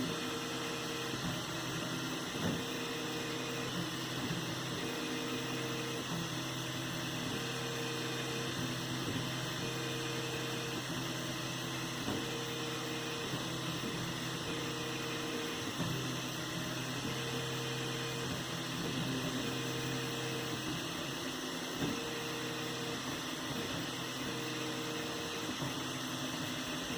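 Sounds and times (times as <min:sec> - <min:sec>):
printer motor tone: 0:00.0 - 0:26.9.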